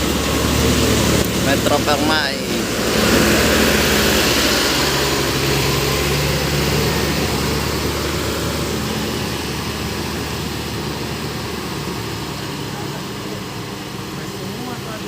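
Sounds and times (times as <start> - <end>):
road noise rush: 0.0 - 15.0
vehicle engines in slow traffic: 0.0 - 15.0.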